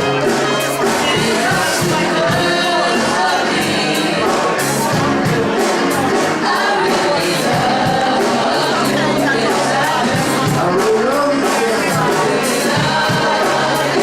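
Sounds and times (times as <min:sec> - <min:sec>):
band with steady beat: 0:00.0 - 0:14.0
voices singing: 0:00.0 - 0:14.0.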